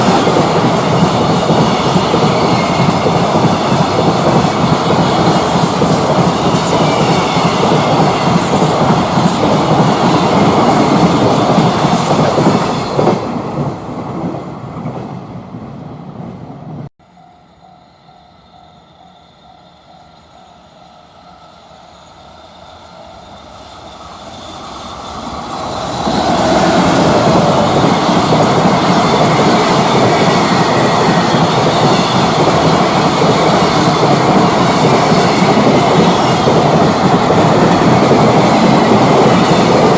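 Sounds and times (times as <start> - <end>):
freight train running past: 0.0 - 39.9.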